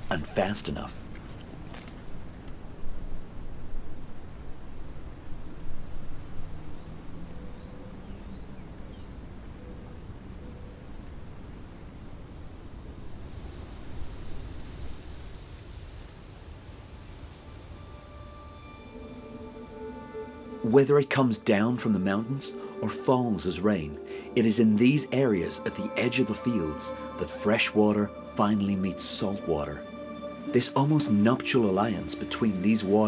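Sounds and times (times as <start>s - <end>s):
insect high trill: 0.0s - 15.4s, 21.5s - 33.0s.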